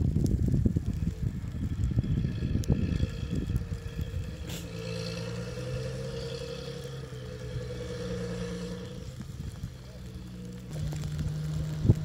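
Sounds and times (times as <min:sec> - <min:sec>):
chairlift machinery hum: 0:00.9 - 0:12.0.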